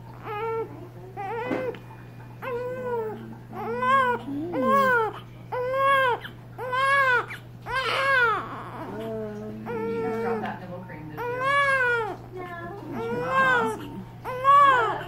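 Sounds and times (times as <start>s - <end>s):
newborn baby crying: 0.1s - 1.8s, 2.4s - 15.0s.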